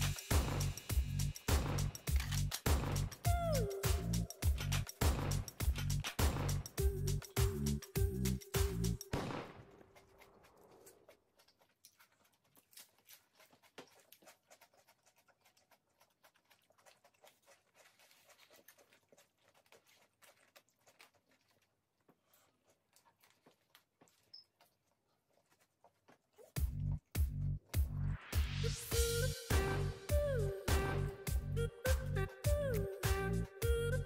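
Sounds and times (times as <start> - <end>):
chewing: 0.0 - 27.9.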